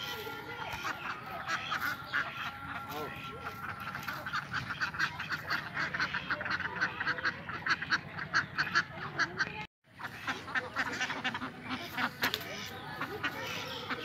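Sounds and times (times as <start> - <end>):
ducks quacking: 0.0 - 14.0.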